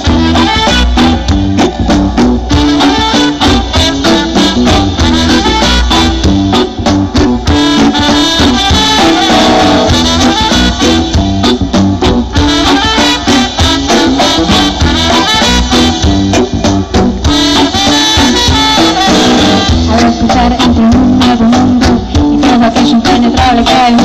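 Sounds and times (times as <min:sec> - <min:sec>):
horns playing melody: 0:00.0 - 0:20.9
bass and drum beat: 0:00.0 - 0:24.0.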